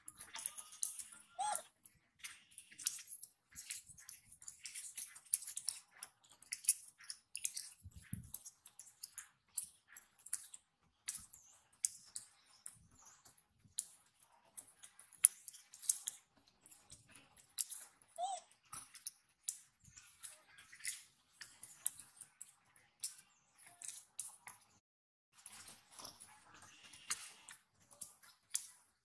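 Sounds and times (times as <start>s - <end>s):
monkey chewing crunchy food: 0.0s - 24.6s, 25.4s - 28.8s.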